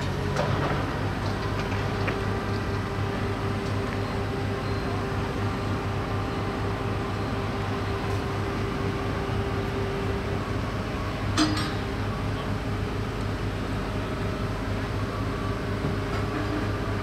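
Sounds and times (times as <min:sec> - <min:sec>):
diesel crane engine running: 0:00.0 - 0:17.0.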